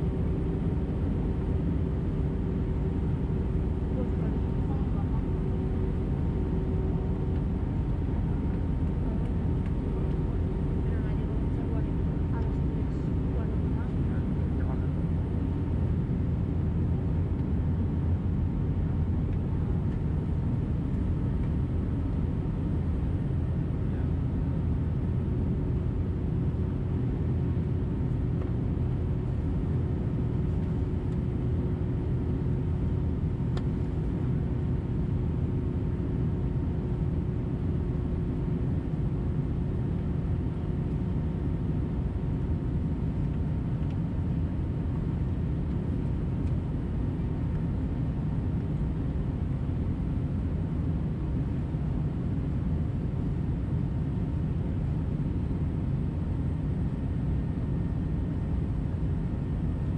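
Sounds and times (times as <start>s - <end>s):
airplane engines rumbling: 0.0s - 59.9s
faint steady whine: 0.0s - 59.9s
low hum: 0.0s - 59.9s.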